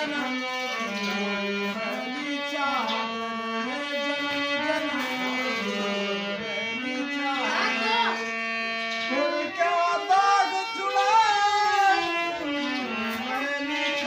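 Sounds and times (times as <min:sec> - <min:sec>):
melody of long held notes: 0:00.0 - 0:14.0.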